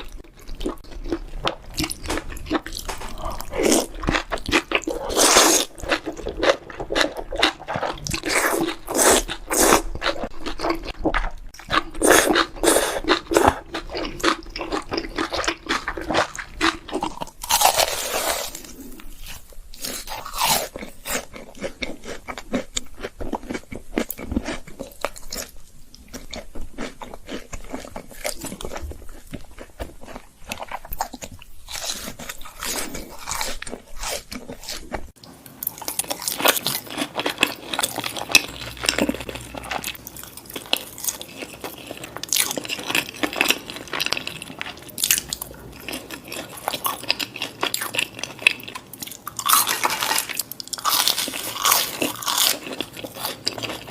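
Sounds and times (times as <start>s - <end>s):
chewing crunchy food: 0.0s - 53.9s.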